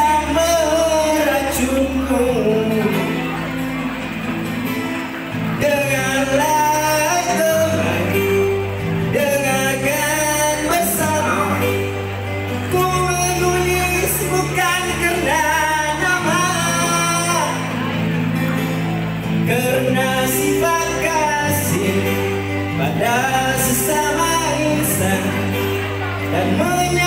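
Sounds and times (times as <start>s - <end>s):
man singing into a microphone: 0.0s - 4.1s, 5.3s - 27.0s
backing music with bass: 0.0s - 27.0s.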